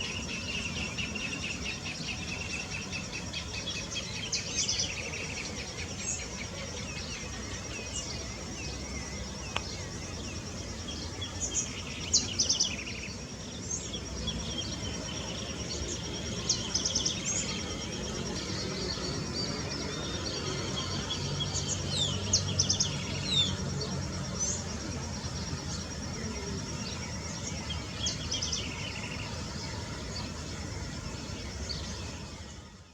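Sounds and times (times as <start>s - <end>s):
insect trill: 0.0s - 32.9s
low background noise: 0.0s - 32.9s
small birds chirping: 0.0s - 32.9s.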